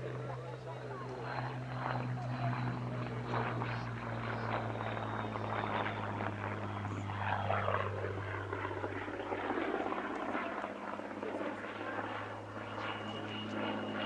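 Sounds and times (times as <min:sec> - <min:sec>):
propeller aircraft engine passing: 0:00.0 - 0:14.0.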